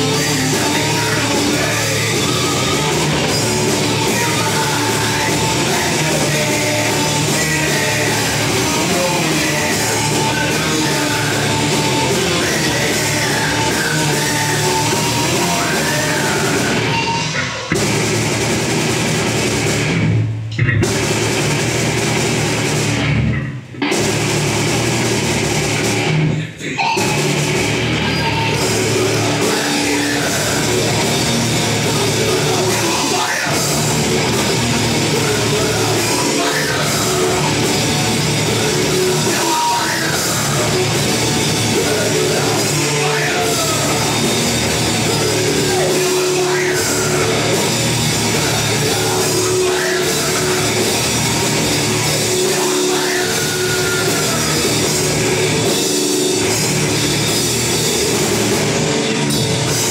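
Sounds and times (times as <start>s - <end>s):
bass guitar: 0.0s - 59.9s
distorted electric guitar: 0.0s - 59.9s
drum kit: 0.0s - 59.9s.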